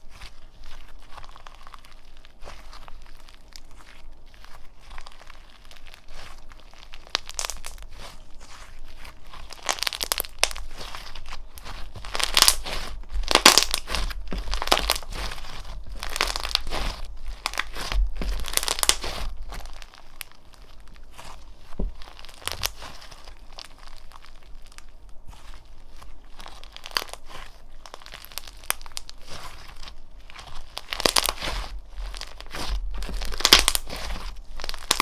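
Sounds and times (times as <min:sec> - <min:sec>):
slime crackling when squeezed: 0:00.1 - 0:35.0.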